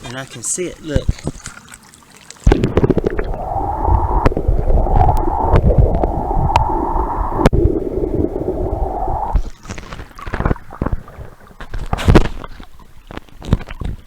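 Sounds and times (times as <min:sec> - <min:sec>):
underwater creek gurgling: 0:00.0 - 0:14.0.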